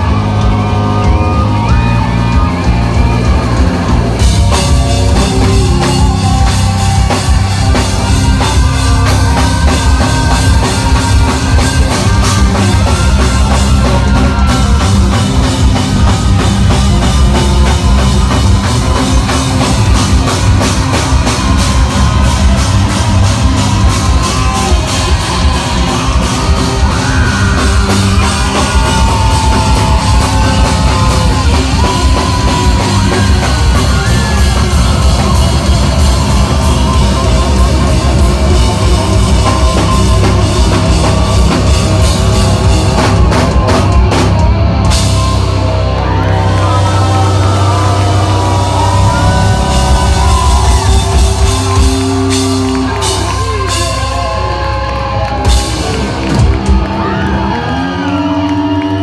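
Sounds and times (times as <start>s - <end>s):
loud live rock band: 0.0s - 59.0s.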